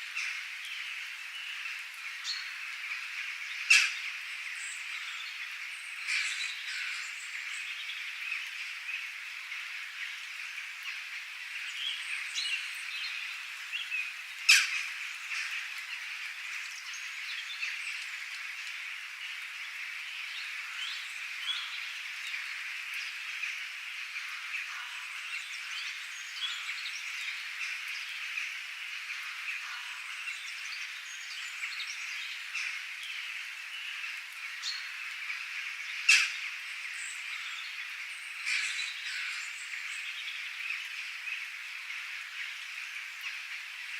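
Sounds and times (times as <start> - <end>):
birds chirping and calling: 0.1 - 19.4, 20.1 - 43.9.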